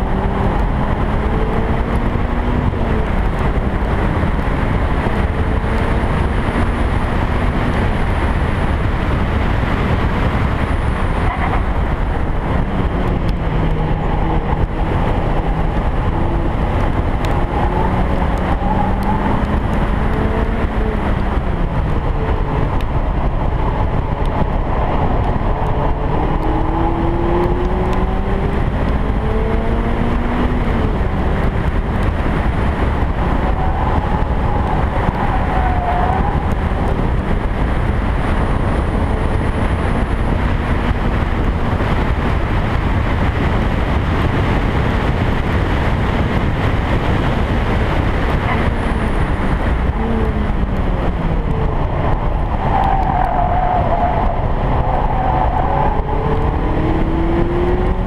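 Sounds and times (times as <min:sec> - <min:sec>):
car engine revving: 0:00.0 - 0:58.0
wind rush on microphone: 0:00.0 - 0:58.0.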